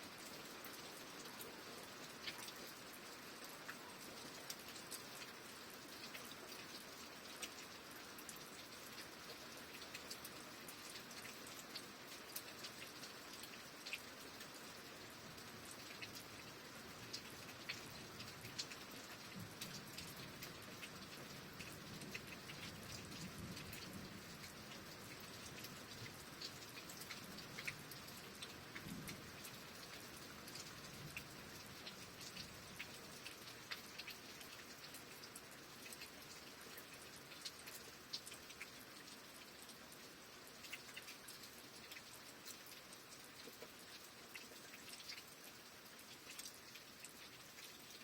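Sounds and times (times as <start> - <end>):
raindrops ticking on a surface: 0.0 - 48.0
steady rain hiss: 0.0 - 48.0.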